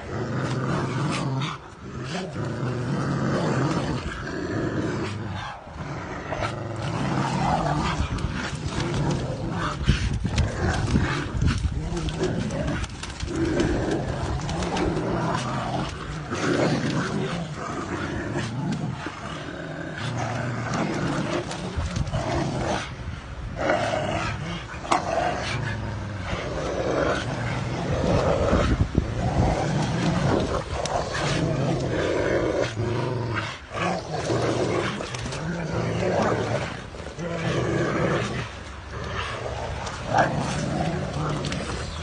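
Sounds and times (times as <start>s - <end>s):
dogs growling in play: 0.0s - 42.0s.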